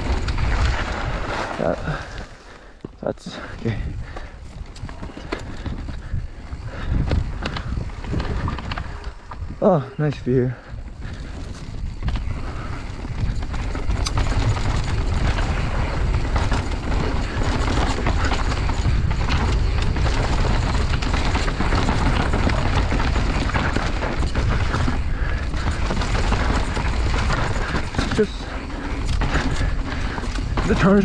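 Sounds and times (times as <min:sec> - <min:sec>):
bike rattling: 0:00.0 - 0:31.0
tyres crunching on loose ground: 0:00.0 - 0:31.0
wind buffeting microphone: 0:03.2 - 0:31.0.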